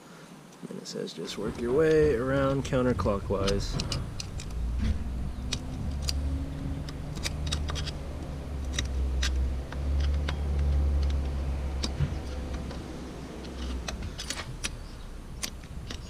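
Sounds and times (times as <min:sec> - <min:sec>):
low steady rumble: 0:01.3 - 0:16.0
metallic clicks and scrapes: 0:01.4 - 0:16.0.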